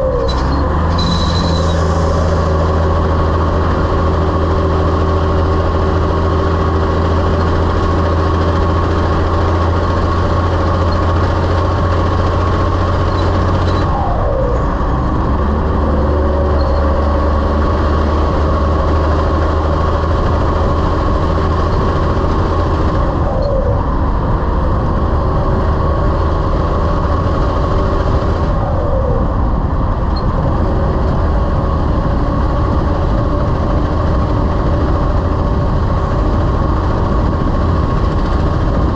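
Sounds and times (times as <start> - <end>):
truck diesel engine shifting gears: 0.0 - 38.9.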